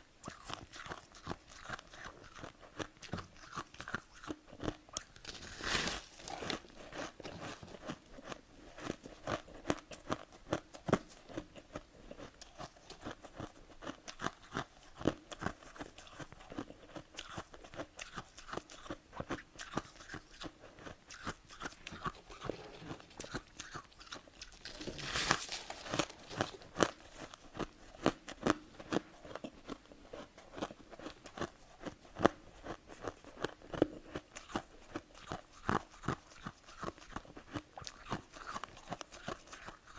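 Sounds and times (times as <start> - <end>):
chewing frost with crunches: 0.0 - 39.9.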